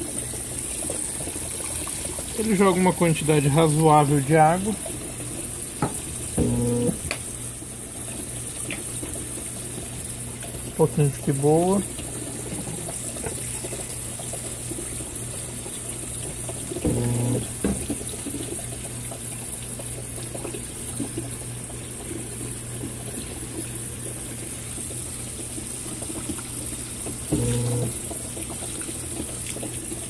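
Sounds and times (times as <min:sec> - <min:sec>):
water running into tub: 0:00.0 - 0:30.0.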